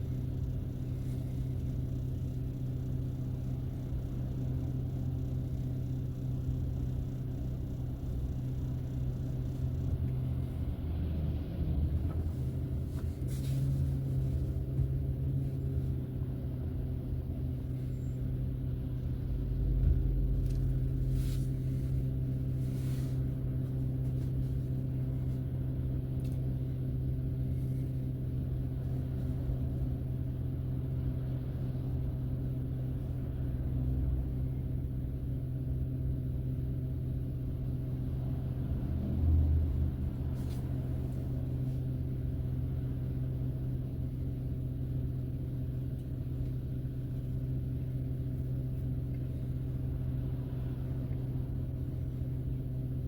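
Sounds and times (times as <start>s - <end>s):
car cabin drone while driving: 0.0s - 53.0s.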